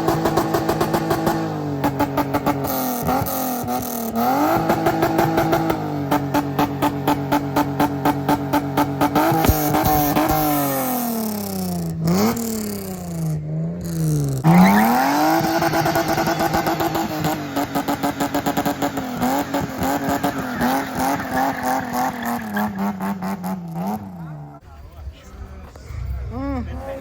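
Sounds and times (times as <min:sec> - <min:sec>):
car engine revving: 0:00.0 - 0:24.6.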